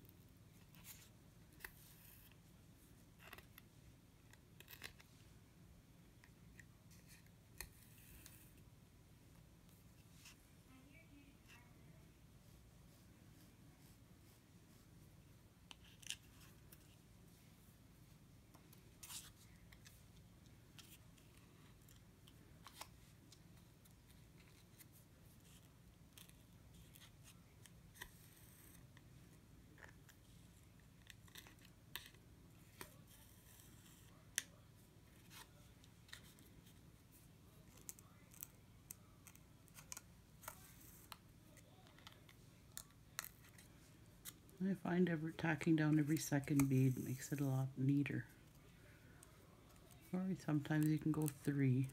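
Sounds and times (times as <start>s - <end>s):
low room hum: 0.0s - 51.9s.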